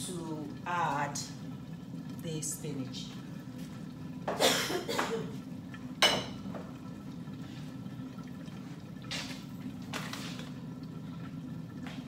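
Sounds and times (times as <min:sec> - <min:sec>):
liquid splashing: 0:00.0 - 0:12.0.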